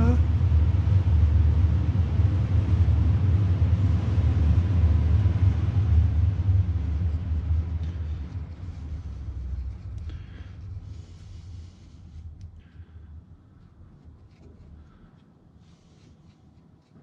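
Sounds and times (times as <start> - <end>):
low rumble: 0.0 - 15.2.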